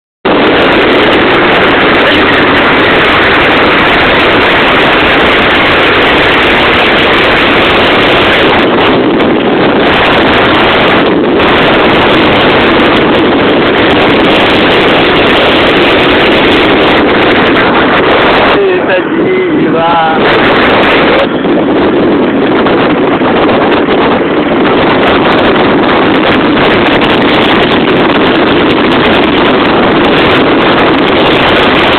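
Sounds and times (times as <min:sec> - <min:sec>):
wind buffeting microphone: 0:00.2 - 0:31.9
motorcycle engine running loud: 0:00.3 - 0:31.9.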